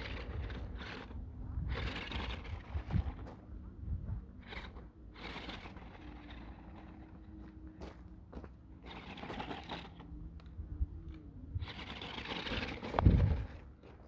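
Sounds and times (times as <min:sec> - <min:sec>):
small electric motor whining: 0:00.0 - 0:03.4, 0:04.4 - 0:07.6, 0:08.8 - 0:13.7.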